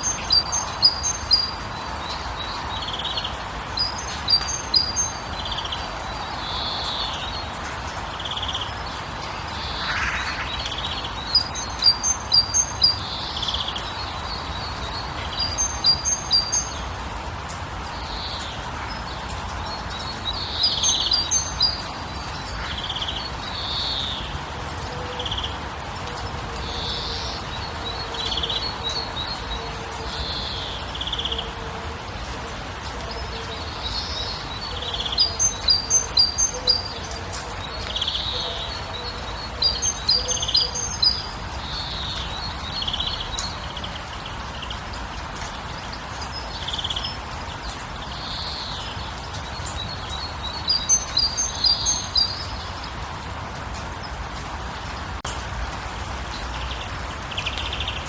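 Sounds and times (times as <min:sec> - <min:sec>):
small birds chirping: 0:00.0 - 0:24.4, 0:32.2 - 0:55.4.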